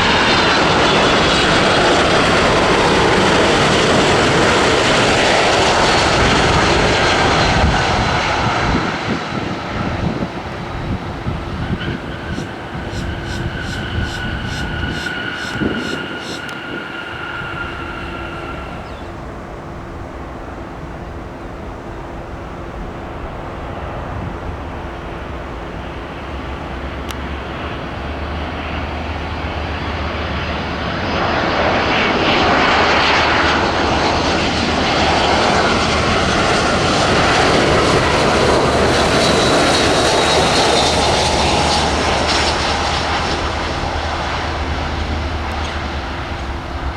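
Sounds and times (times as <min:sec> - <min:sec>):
jet engine roar: 0:00.0 - 0:46.9
jet turbine whine: 0:00.0 - 0:46.9.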